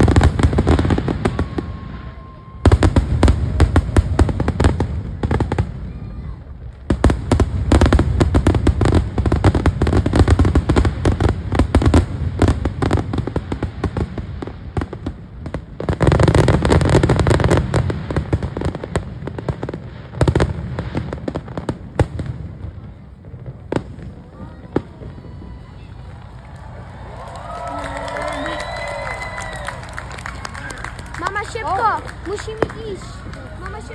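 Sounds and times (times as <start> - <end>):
fireworks bursting with bangs and crackle: 0.0 - 33.9.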